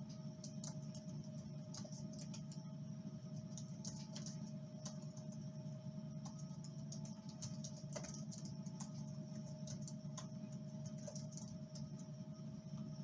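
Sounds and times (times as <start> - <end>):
keyboard typing clicks: 0.0 - 2.6, 3.4 - 5.4, 6.2 - 12.1
low room hum: 0.0 - 13.0.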